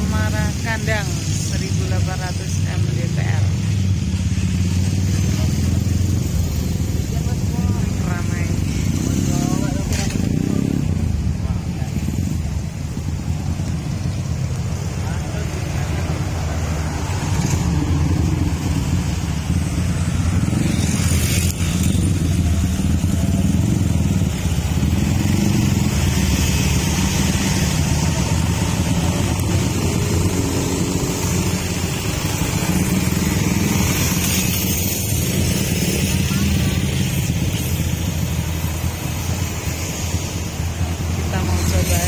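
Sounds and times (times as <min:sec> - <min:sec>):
motorcycle engines running: 0:00.0 - 0:42.0
vehicles passing on road: 0:00.0 - 0:42.0.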